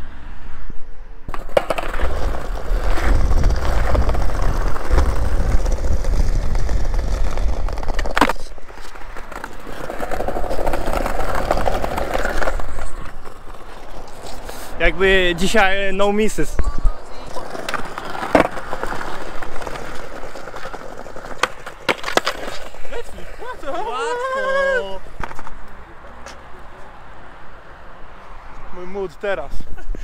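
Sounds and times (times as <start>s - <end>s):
skateboard wheels rolling on bricks: 1.3s - 25.7s.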